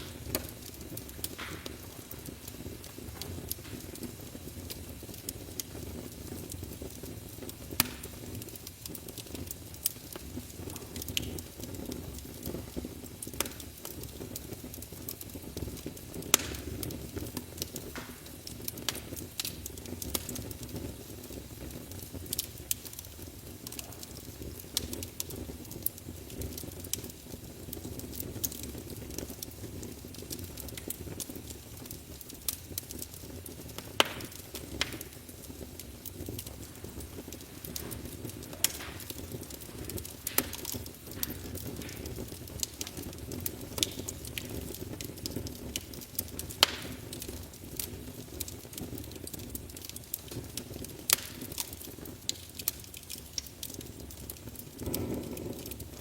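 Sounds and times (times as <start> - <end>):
rush of flames: 0.0 - 56.0
wood crackling and popping: 0.0 - 56.0.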